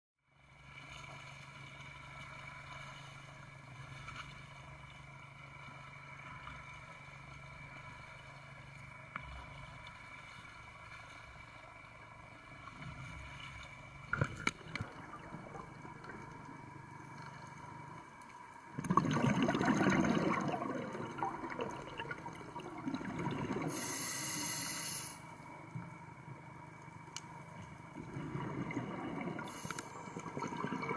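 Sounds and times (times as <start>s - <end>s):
water sloshing and splashing: 0.6s - 24.0s, 25.6s - 30.9s.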